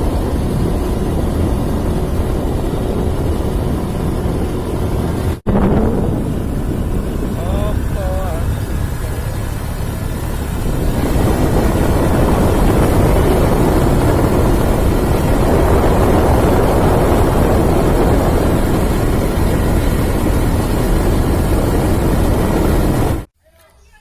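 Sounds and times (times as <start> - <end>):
road noise: 0.0 - 23.3
vehicle engine running: 0.0 - 23.3.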